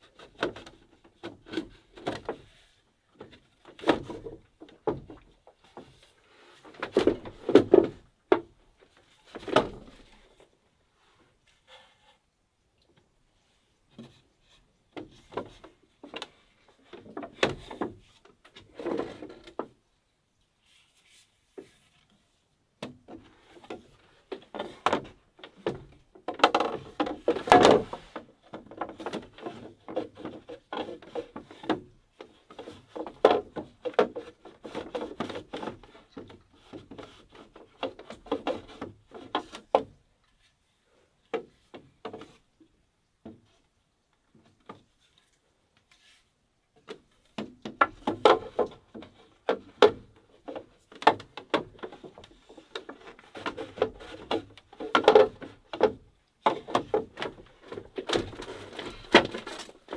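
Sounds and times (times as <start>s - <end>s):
bamboo knocking and scraping: 0.0s - 12.3s, 12.9s - 19.8s, 20.6s - 59.9s.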